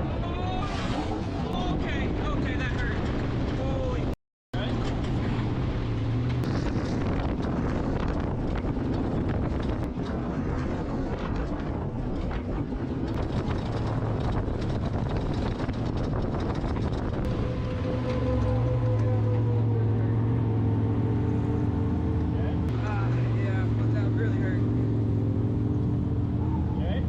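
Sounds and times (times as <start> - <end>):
wind buffeting microphone: 0.0 - 26.7
vehicle engine running: 4.6 - 27.0.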